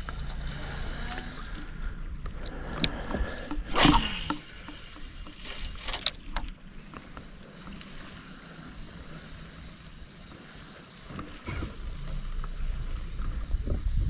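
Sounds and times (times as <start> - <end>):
scattered clicks: 0.0 - 14.0
steady low rumble: 0.0 - 14.0.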